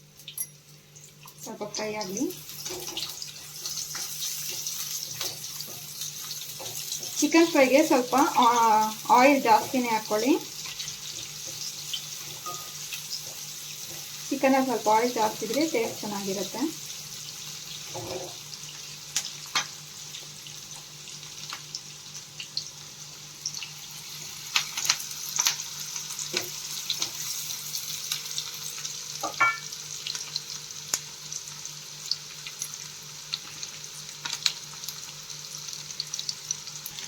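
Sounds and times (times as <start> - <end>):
onion sizzling in oil: 0.0 - 37.0.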